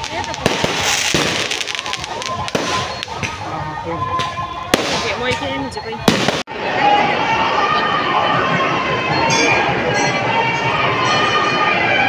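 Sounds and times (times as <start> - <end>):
crowd chatter: 0.0 - 12.0
music playing: 0.1 - 12.0.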